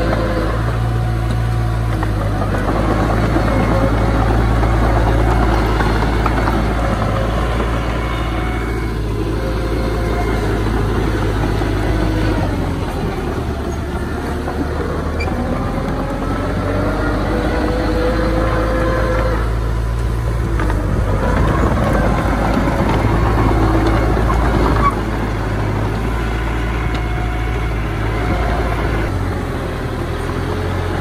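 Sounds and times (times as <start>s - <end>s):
diesel machinery engine rumble: 0.0s - 31.0s.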